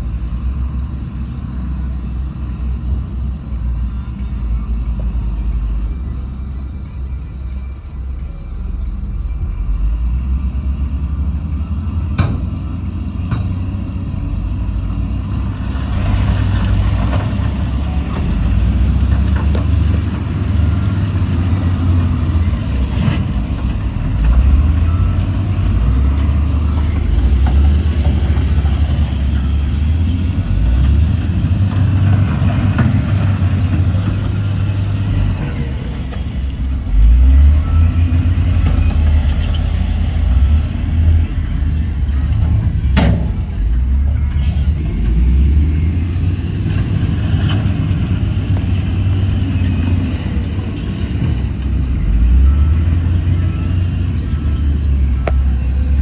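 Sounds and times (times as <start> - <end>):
heavy diesel machinery rumble: 0.0 - 56.0.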